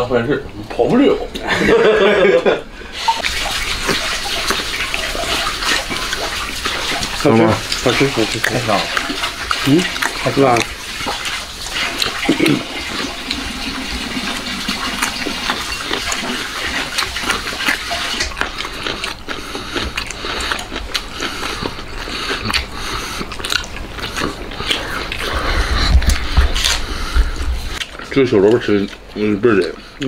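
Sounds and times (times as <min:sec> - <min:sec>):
person chewing and slurping: 0:03.0 - 0:30.0.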